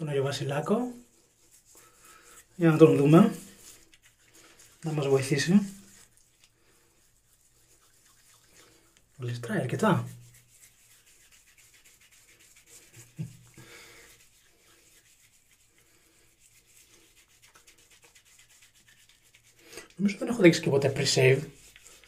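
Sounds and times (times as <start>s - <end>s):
soap rubbing on stubble: 0.1s - 22.0s.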